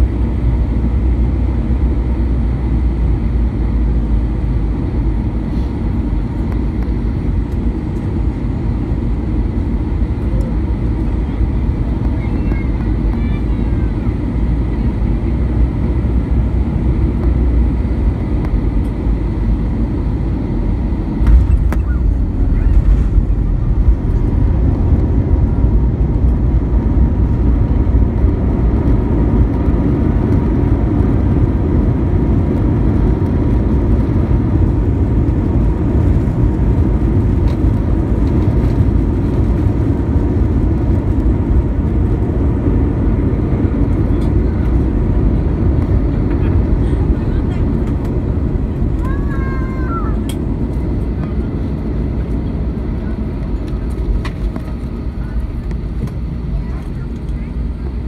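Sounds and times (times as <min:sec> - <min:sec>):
jet engines and wheels rumbling: 0:00.0 - 0:58.0.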